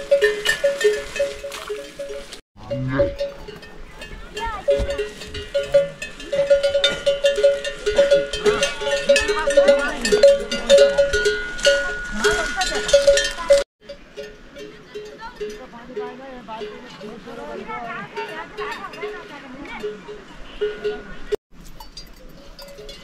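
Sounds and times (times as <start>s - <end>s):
livestock bells clanking: 0.0s - 23.0s.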